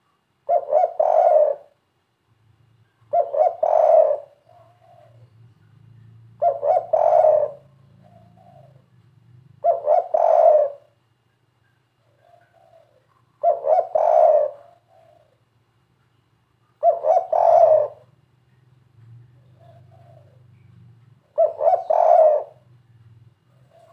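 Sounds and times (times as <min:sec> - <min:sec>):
dove cooing: 0:00.0 - 0:01.8, 0:02.9 - 0:11.0, 0:12.0 - 0:15.5, 0:16.7 - 0:18.3, 0:19.4 - 0:23.9.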